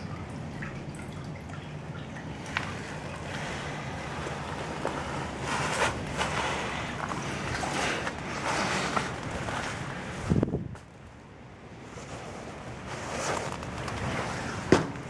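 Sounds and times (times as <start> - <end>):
wind rumbling on microphone: 2.8 - 15.0.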